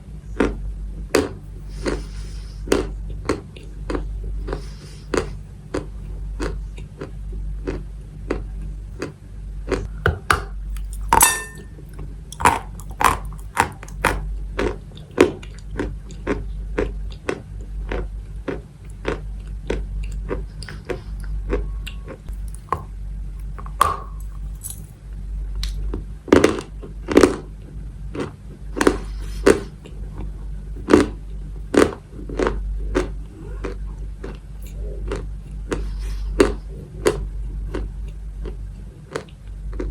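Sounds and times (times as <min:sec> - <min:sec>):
steady low hum: 0:00.0 - 0:39.9
chalk being chewed crunching: 0:00.3 - 0:10.0, 0:10.7 - 0:24.6, 0:25.6 - 0:39.9.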